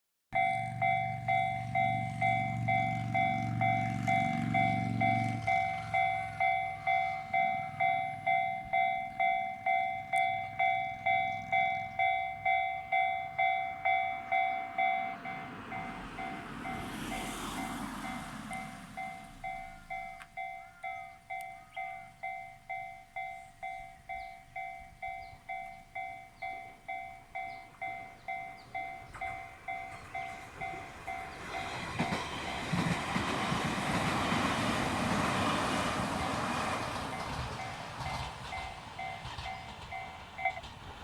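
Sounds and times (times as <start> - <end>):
level crossing electronic warning tone: 0.4 - 40.7.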